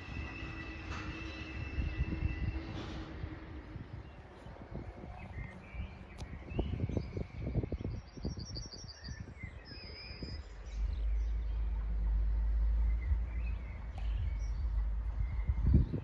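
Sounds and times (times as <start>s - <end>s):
deep steady rumble: 0.0s - 8.4s, 9.3s - 16.0s
low buffeting: 0.0s - 8.4s, 9.4s - 16.0s
birds chirping: 0.0s - 16.0s.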